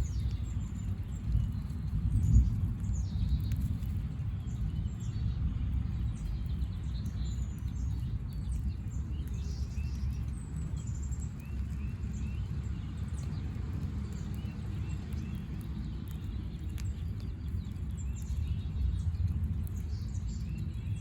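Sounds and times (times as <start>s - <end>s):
small birds chirping: 0.0s - 21.0s
steady low rumble: 0.0s - 21.0s.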